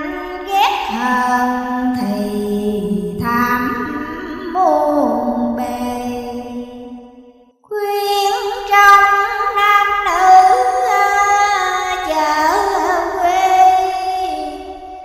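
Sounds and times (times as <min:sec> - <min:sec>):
woman chanting melodically: 0:00.0 - 0:06.9, 0:07.7 - 0:15.0.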